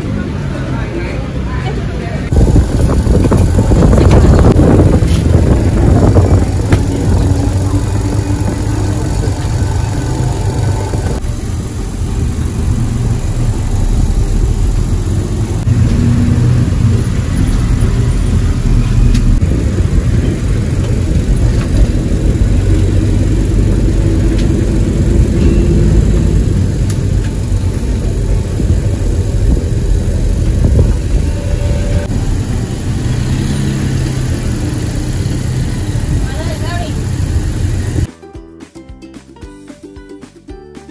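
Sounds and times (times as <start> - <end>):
bus engine and road rumble: 0.0 - 38.1.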